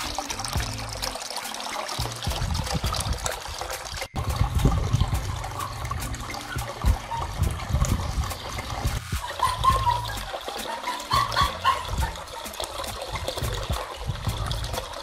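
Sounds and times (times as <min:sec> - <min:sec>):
water trickling down small waterfall: 0:00.0 - 0:15.0.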